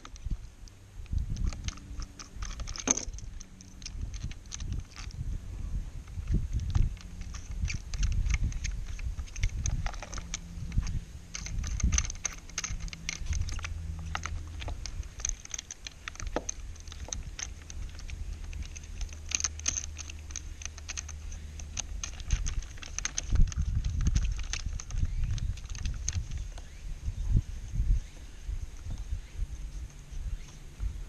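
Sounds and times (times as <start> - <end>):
plastic and metal clamp clicking: 0.0 - 5.2, 6.0 - 26.7.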